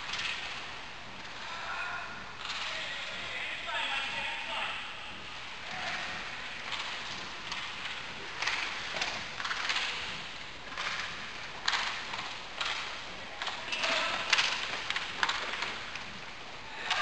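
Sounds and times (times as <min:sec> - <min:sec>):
skate wheels swishing: 0:00.0 - 0:17.0.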